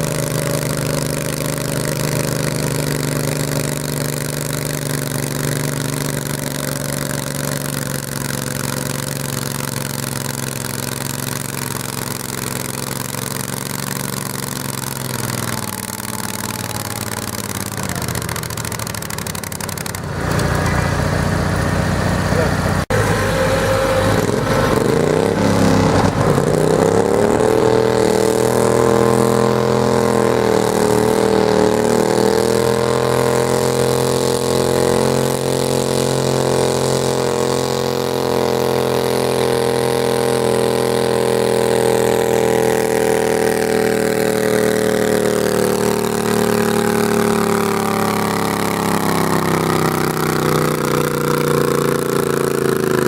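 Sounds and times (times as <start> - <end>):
garden tractor engine running hard: 0.0 - 53.0.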